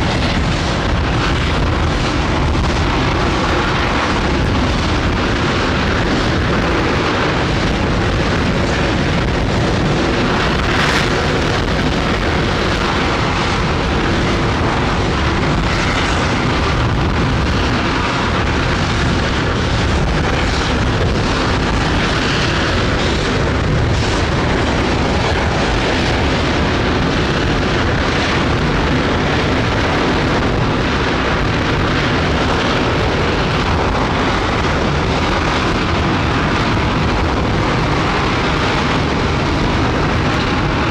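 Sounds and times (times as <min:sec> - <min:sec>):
rocket engine roaring: 0:00.0 - 0:40.9.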